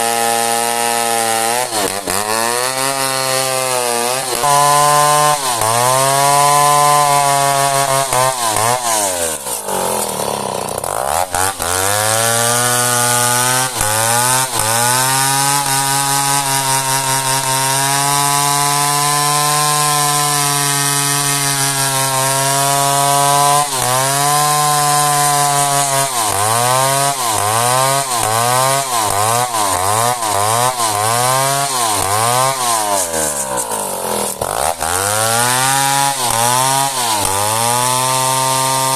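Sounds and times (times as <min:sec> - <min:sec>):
chainsaw cutting hardwood: 0:00.0 - 0:38.9.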